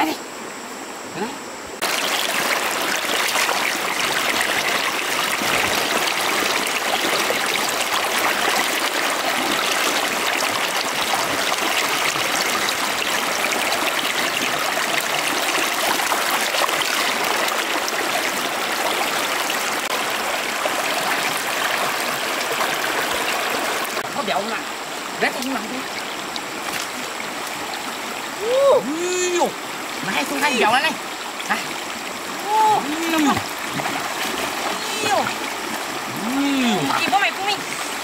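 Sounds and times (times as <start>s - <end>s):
river water rushing and splashing: 1.8s - 38.0s.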